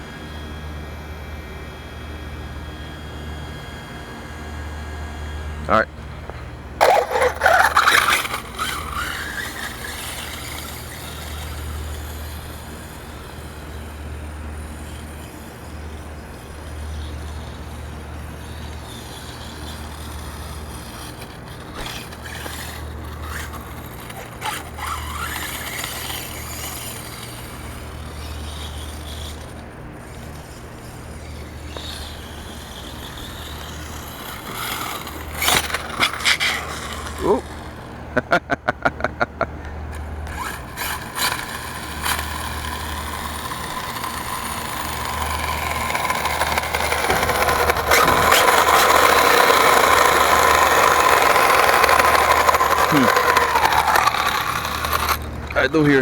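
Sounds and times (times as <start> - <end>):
electric motor whining: 0.0 - 38.7, 39.6 - 56.0
steady low hum: 0.0 - 56.0.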